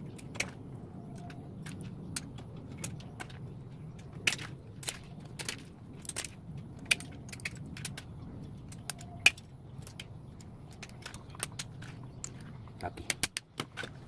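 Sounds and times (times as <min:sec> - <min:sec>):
low steady hum: 0:00.0 - 0:14.0
small hard parts clicking: 0:00.0 - 0:14.0.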